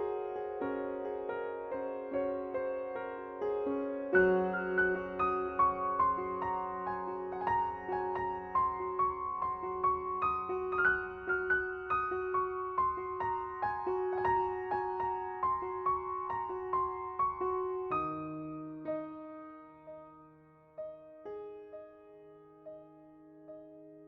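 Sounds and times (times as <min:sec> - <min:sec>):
soft piano melody: 0:00.0 - 0:24.0.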